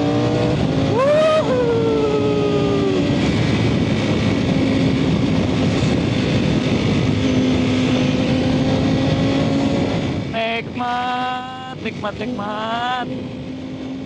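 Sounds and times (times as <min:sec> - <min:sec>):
motorcycle engine cruising: 0:00.0 - 0:14.0
wind rush on microphone: 0:00.0 - 0:14.0.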